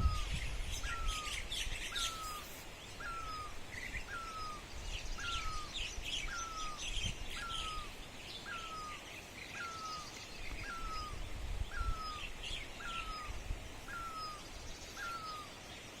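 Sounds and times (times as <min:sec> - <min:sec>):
birds twittering: 0:00.0 - 0:16.0.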